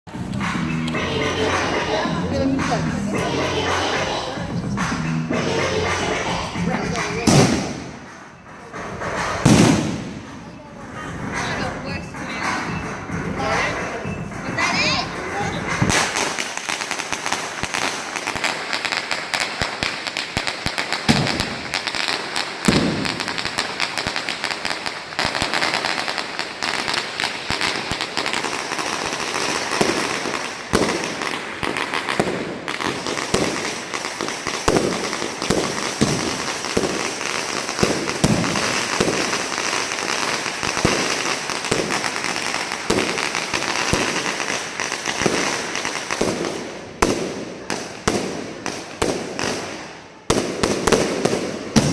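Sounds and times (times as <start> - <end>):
fireworks crackling: 0.1 - 51.9
firework bangs: 1.4 - 51.9.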